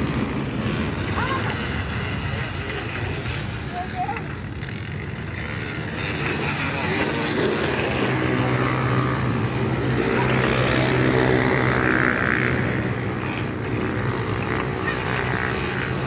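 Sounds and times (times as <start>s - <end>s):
bottle buzzing on wheel spokes: 0.0s - 16.0s.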